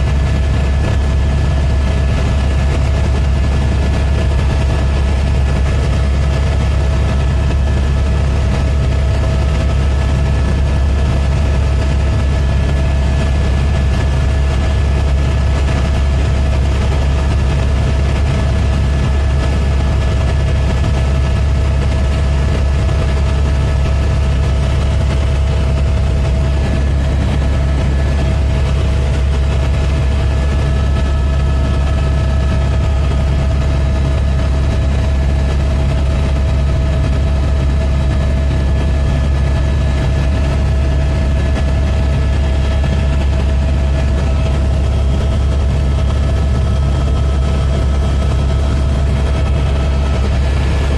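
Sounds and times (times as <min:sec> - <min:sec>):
helicopter engine and rotor drone: 0:00.0 - 0:50.9.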